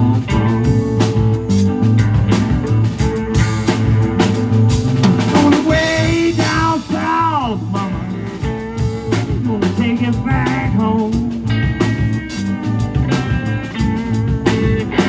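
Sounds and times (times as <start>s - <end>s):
bass: 0.0s - 15.0s
blues-rock band playing: 0.0s - 15.0s
drum-kit beat: 0.0s - 15.0s
lead guitar line bending: 0.0s - 15.0s.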